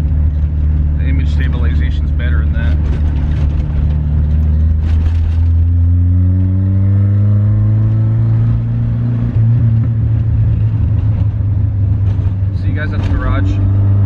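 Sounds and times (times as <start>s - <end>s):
car engine revving under acceleration: 0.0s - 14.0s.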